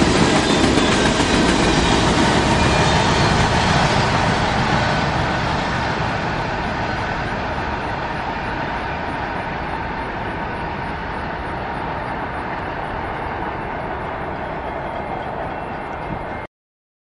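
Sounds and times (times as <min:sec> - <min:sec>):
train wheels rumbling on track: 0:00.0 - 0:16.5.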